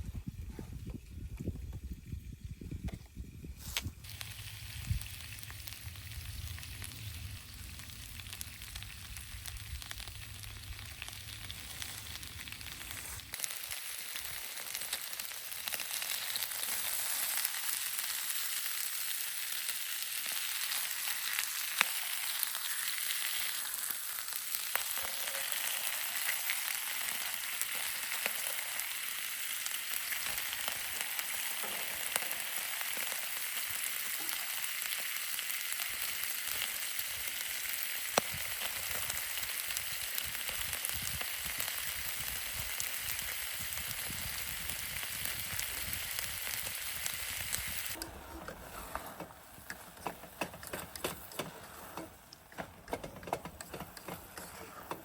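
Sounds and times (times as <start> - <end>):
food sizzling in a pan: 3.6 - 52.5.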